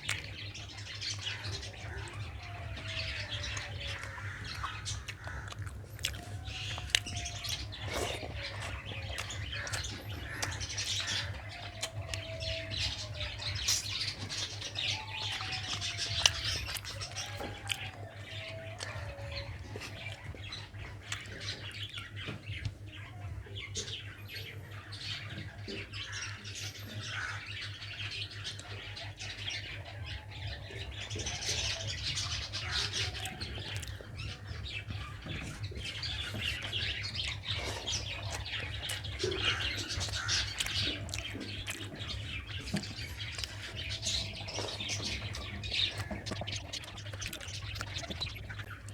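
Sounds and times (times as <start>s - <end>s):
person chewing with wet smacks: 0.0s - 24.0s, 28.5s - 48.9s
steady low hum: 0.0s - 48.9s.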